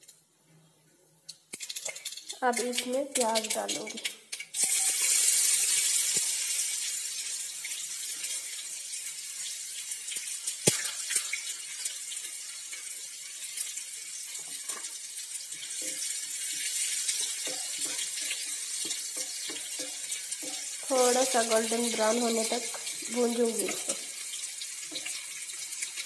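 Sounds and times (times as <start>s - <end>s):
onions sizzling in hot oil: 1.3s - 26.0s.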